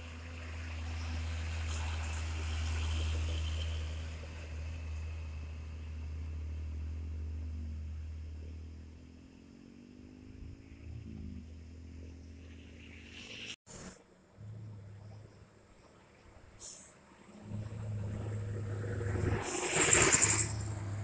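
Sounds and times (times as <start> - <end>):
truck diesel engine pulling away: 0.0 - 15.4, 16.4 - 21.0.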